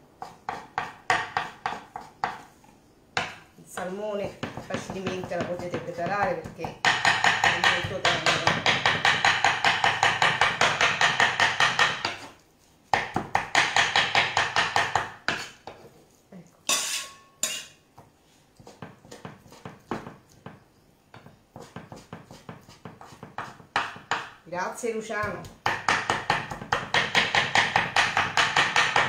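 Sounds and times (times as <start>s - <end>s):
knife chopping on wooden board: 0.2s - 2.5s, 3.2s - 15.6s, 17.5s - 24.4s, 25.2s - 29.0s.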